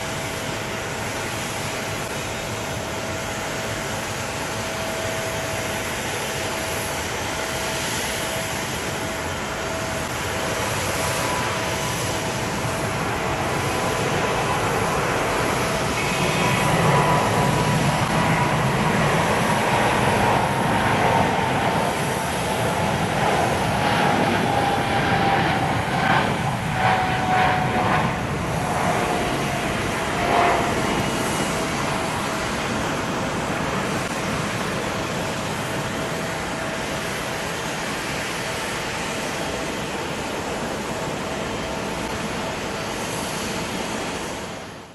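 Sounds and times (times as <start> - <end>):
jet engine roar: 0.0 - 44.9
jet engine whine falling in pitch: 0.0 - 44.9.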